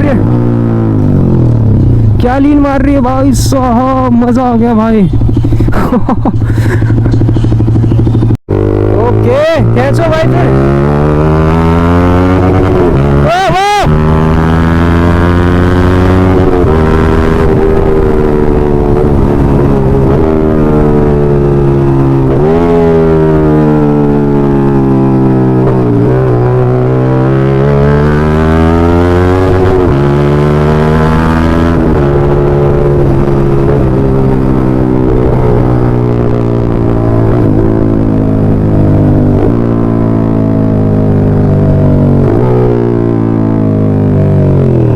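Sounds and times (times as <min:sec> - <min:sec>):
loud motorcycle engine: 0:00.0 - 0:44.9.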